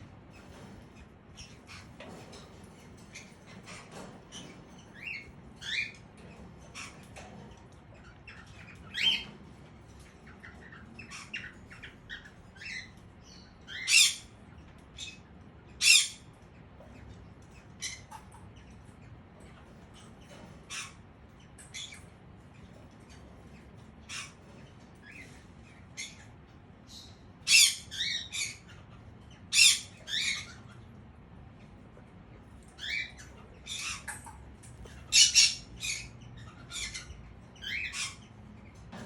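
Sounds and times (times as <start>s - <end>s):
parrots chirping and squawking: 0.0s - 39.0s.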